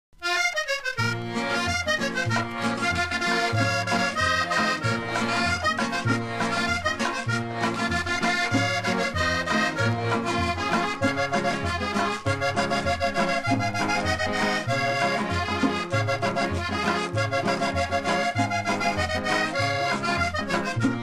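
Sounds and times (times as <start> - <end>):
accordion melody: 0.2 - 21.0
cumbia music from a record: 0.2 - 21.0.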